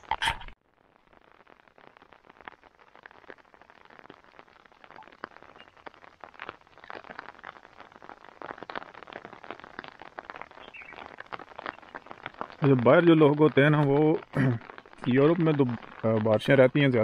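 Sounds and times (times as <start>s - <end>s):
light rain pattering: 0.0s - 17.0s
raindrops tapping near microphone: 0.0s - 17.0s.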